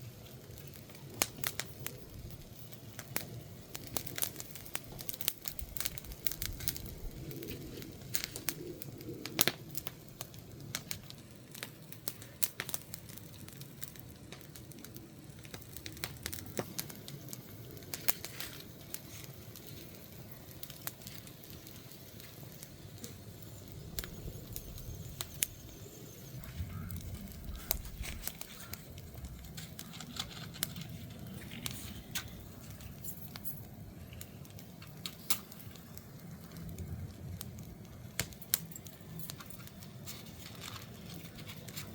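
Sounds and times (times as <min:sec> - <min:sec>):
low rumble of burning logs: 0:00.0 - 0:41.9
wood fire crackling and popping: 0:00.0 - 0:41.9.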